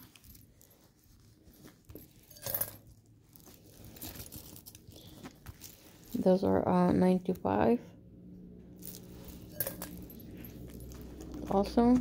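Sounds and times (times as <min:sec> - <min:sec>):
jewelry clinking and rustling: 0:00.0 - 0:06.7, 0:08.7 - 0:12.0.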